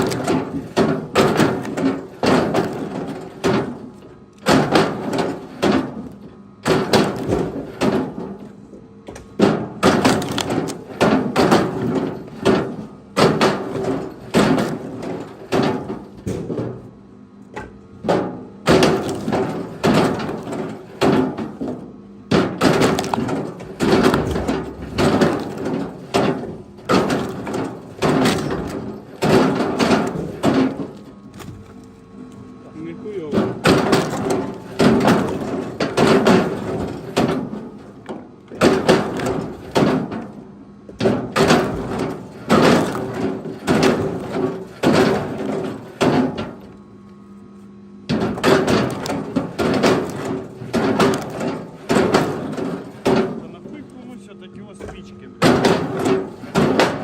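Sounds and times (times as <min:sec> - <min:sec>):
firewood clattering: 0:00.0 - 0:16.8, 0:17.5 - 0:32.4, 0:33.2 - 0:46.9, 0:48.0 - 0:57.0.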